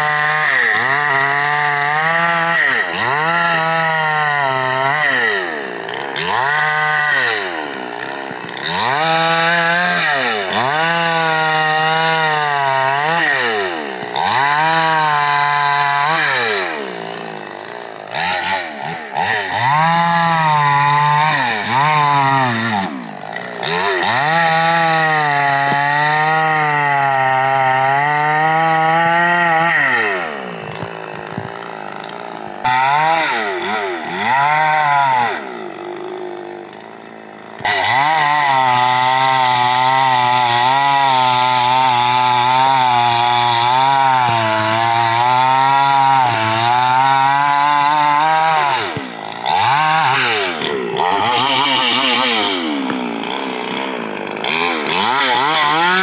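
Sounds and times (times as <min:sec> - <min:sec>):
chainsaw cutting branches: 0:00.0 - 0:56.0.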